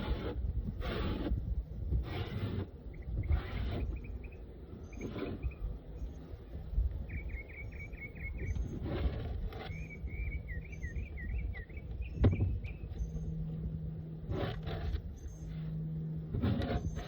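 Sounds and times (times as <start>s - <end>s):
scraping rustle: 0.0s - 6.7s, 8.2s - 17.0s
low steady hum: 0.0s - 17.0s
songbird singing: 2.7s - 17.0s.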